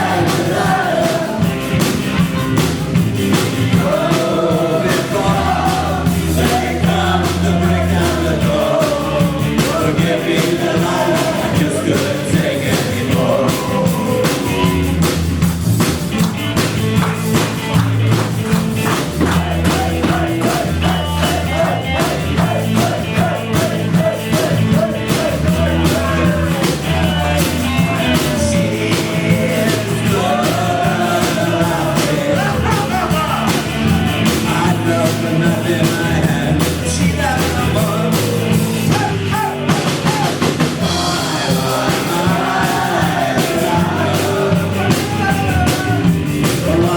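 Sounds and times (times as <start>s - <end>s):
drums keeping steady beat: 0.0s - 46.9s
live rock band playing: 0.0s - 46.9s
person singing: 3.7s - 15.1s, 19.2s - 46.9s.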